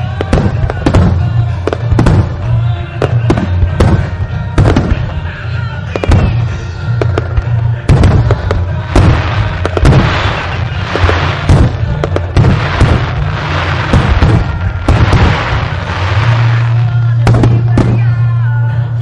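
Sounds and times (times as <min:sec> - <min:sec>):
fireworks bursting with sharp bangs: 0:00.0 - 0:18.7
crackling fireworks glitter: 0:00.0 - 0:19.0.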